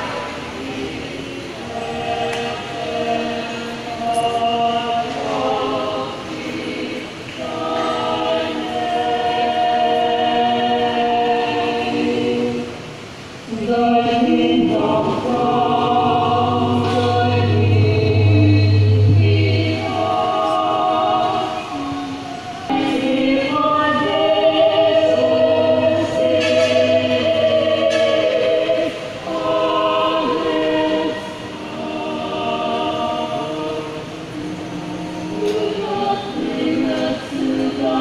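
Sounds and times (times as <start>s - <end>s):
group singing a cappella: 0.0s - 38.0s
steady low hum: 0.0s - 38.0s.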